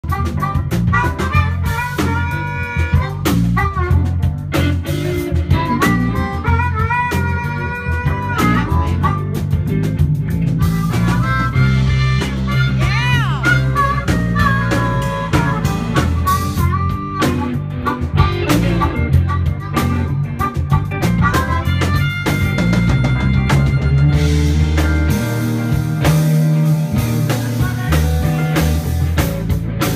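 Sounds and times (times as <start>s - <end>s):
amplified harmonica: 0.0s - 29.9s
drums: 0.0s - 29.9s
electric guitar: 0.0s - 29.9s
keyboard: 0.0s - 29.9s.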